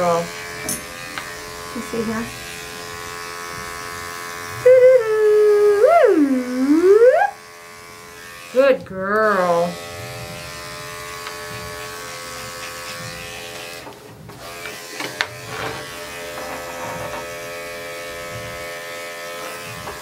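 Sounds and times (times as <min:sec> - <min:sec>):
electric clipper buzzing: 0:00.0 - 0:20.0.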